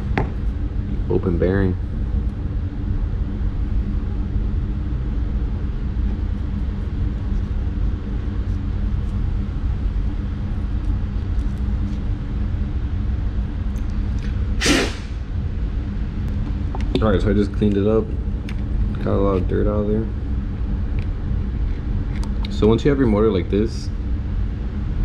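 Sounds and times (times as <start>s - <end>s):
low hum: 0.0s - 25.0s
low rumble: 1.7s - 25.0s.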